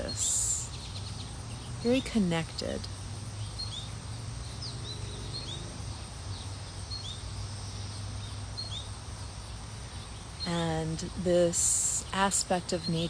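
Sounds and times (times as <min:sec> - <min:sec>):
low outdoor hum: 0:00.0 - 0:13.0
songbird chirping: 0:00.0 - 0:13.0.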